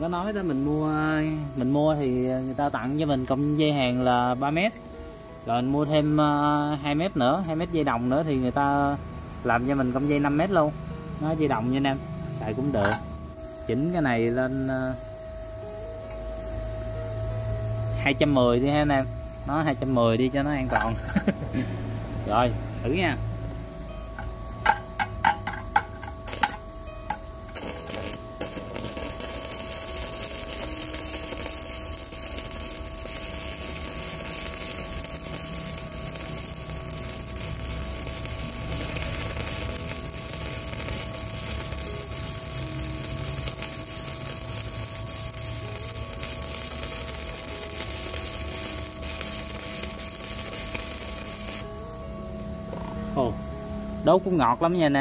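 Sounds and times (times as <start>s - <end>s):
welding arc crackling sizzle: 0.0s - 4.8s, 5.4s - 13.8s, 18.1s - 23.2s, 24.2s - 51.8s.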